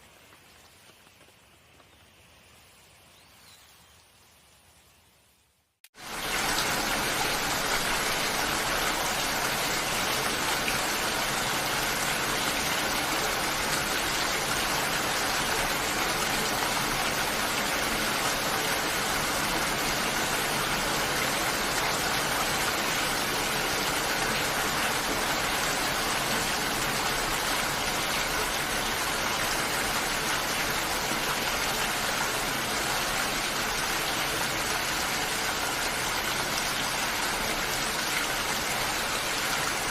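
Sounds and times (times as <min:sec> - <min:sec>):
heavy rain: 0:06.0 - 0:39.9.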